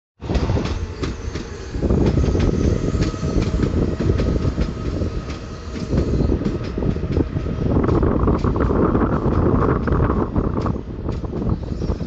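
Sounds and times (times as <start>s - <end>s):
train running gear rumble: 0.2s - 12.0s.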